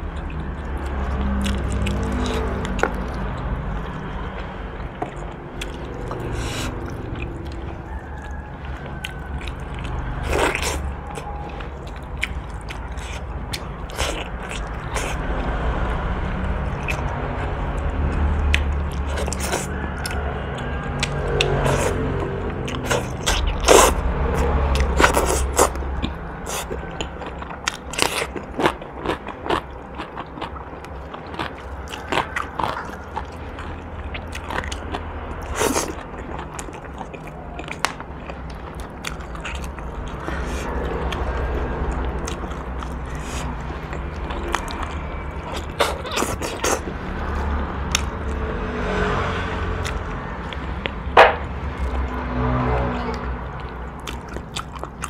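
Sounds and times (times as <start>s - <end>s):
chewing and smacking: 0.0s - 55.0s.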